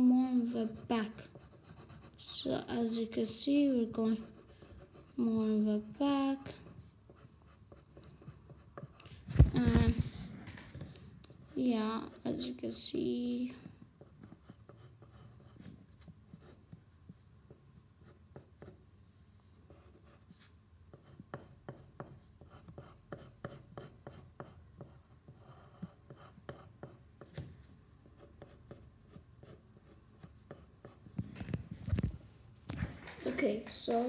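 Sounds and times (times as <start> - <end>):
pencil scratching on paper: 0.0 - 10.8, 11.4 - 31.5.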